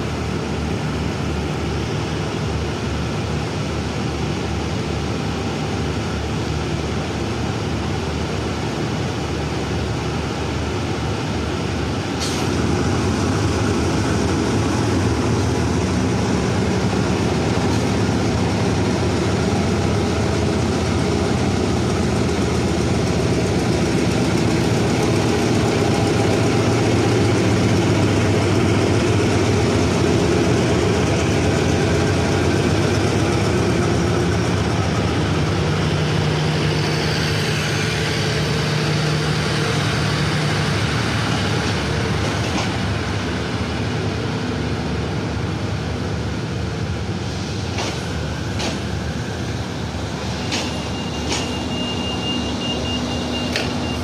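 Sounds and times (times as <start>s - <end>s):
diesel locomotive engine under load: 0.0s - 54.0s.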